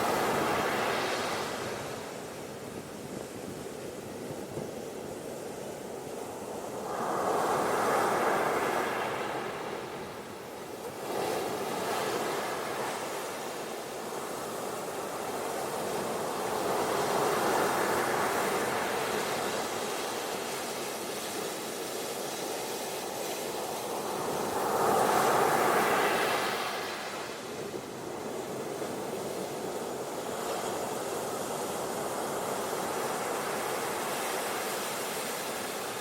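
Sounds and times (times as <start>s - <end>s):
ocean surf washing onto beach: 0.0s - 2.5s, 6.1s - 36.0s.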